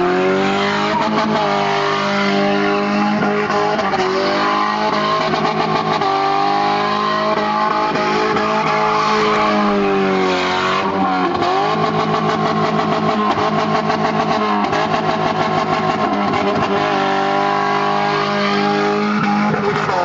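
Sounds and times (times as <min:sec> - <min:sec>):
car engine revving high: 0:00.0 - 0:20.0.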